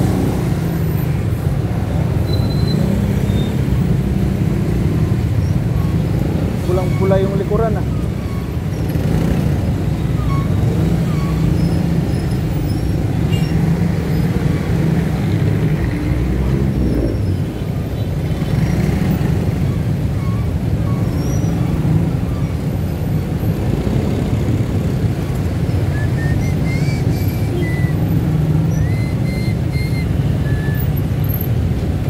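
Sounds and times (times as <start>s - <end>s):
idling traffic engines rumbling: 0.0s - 32.0s.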